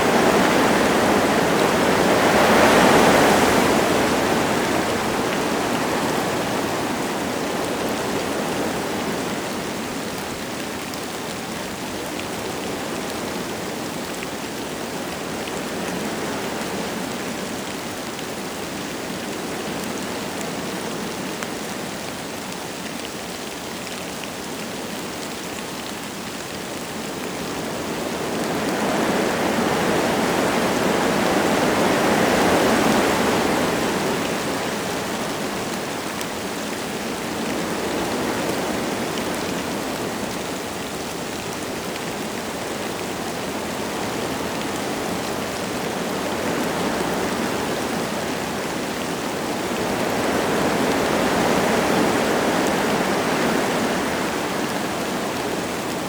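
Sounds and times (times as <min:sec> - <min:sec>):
light rain falling: 0:00.0 - 0:56.0
wind gusting through trees: 0:00.0 - 0:56.0.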